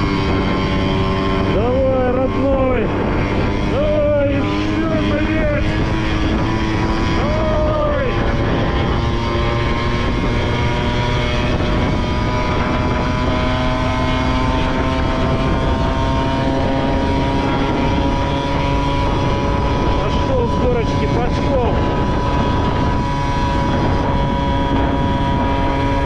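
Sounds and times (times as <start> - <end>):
moped engine running: 0.0 - 26.0
road and wind noise: 0.0 - 26.0.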